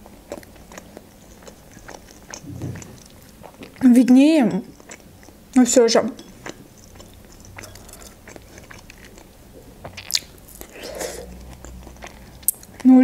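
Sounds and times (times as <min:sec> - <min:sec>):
person chewing soft fruit: 0:00.0 - 0:12.9.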